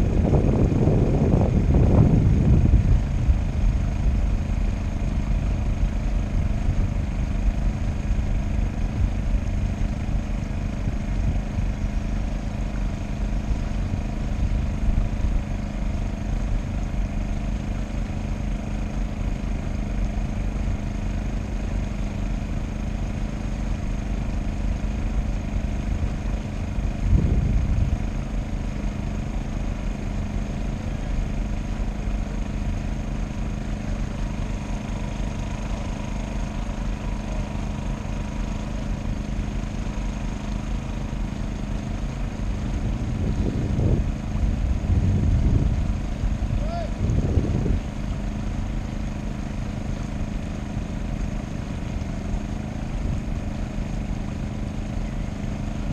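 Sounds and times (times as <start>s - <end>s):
boat engine running: 0.0s - 55.9s.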